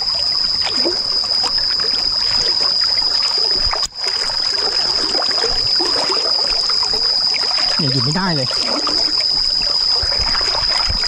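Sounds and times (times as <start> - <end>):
steady high-pitched whine: 0.0 - 11.0
stream water flowing and splashing: 0.0 - 11.0.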